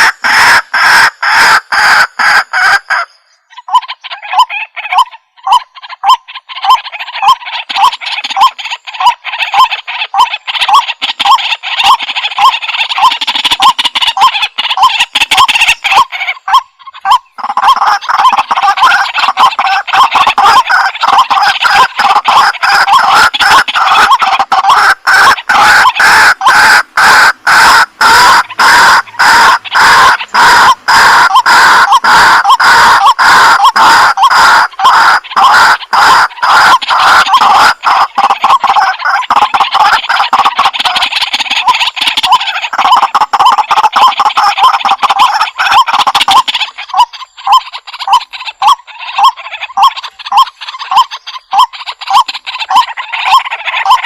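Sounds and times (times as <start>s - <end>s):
waterhen calling harsh notes: 0.0s - 54.0s.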